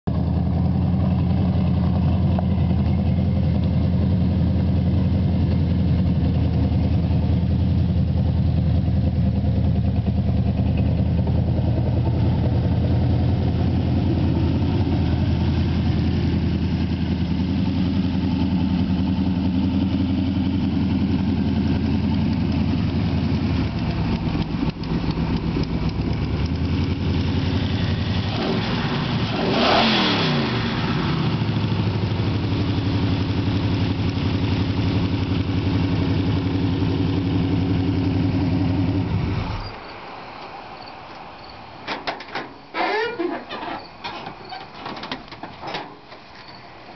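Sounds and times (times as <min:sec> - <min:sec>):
car engine lumpy rumble: 0:00.0 - 0:46.9.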